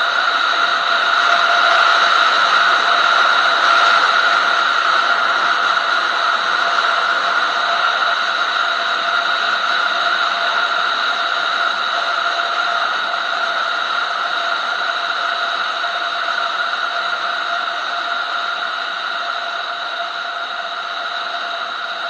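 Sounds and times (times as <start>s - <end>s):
motorcycle engine drone: 0.0s - 22.0s.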